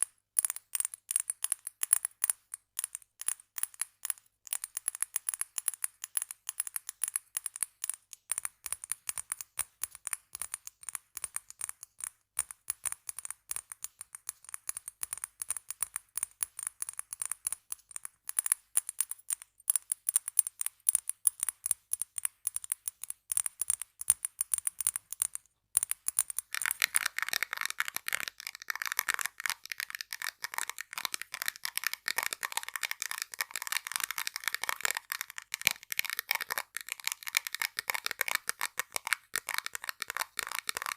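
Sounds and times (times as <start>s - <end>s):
rapid tapping on objects: 0.0s - 40.9s.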